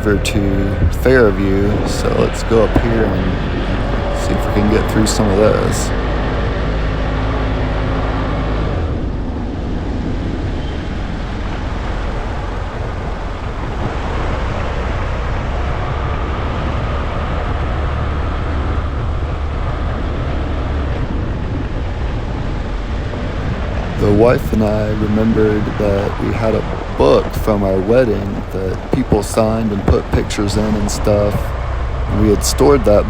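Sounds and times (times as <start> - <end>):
road and wind noise: 0.0 - 33.0
vehicle engine: 0.0 - 33.0.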